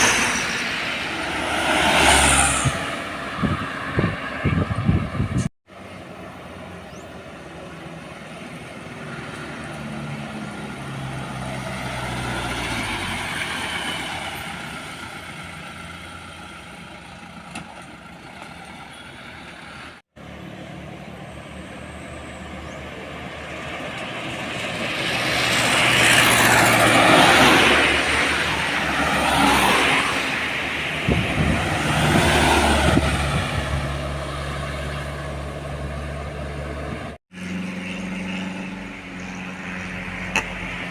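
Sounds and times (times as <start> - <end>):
diesel trucks passing: 0.0 - 40.9.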